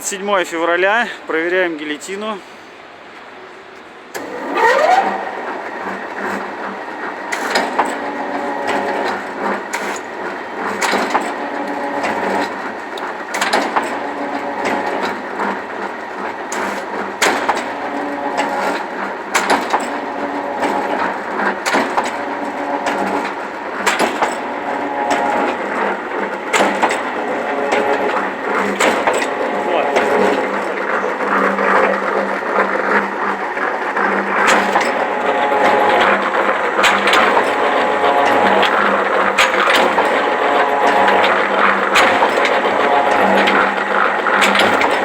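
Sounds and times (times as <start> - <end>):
motor and drive hum: 0.0 - 45.0.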